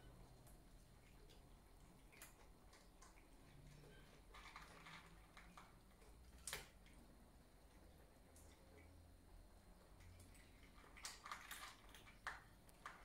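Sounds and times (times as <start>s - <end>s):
cats crunching dry kibble: 1.0s - 8.7s, 10.1s - 13.0s.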